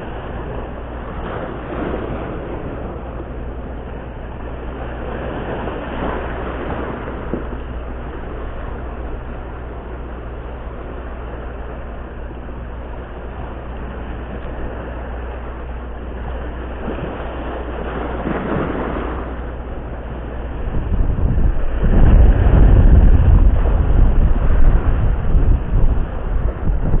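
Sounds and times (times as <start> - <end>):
steady low rumble: 0.0 - 27.0
waves splashing against rocks: 0.0 - 27.0.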